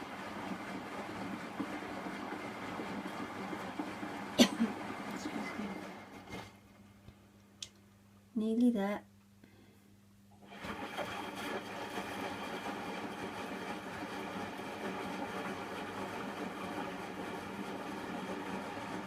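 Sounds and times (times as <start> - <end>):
washing machine rattling and humming: 0.0 - 7.0, 10.4 - 19.0.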